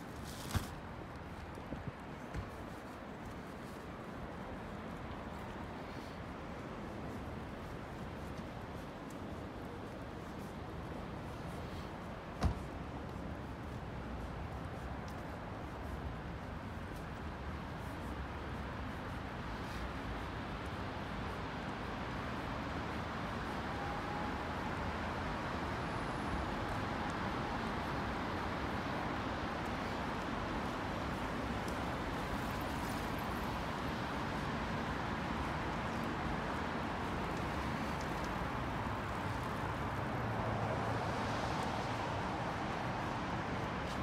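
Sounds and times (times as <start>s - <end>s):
road traffic noise: 0.0s - 44.0s.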